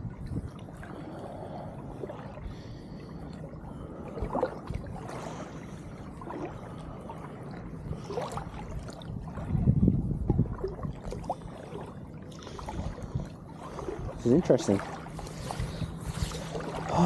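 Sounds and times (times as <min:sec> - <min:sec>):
seawater sloshing and swishing: 0:00.0 - 0:17.0.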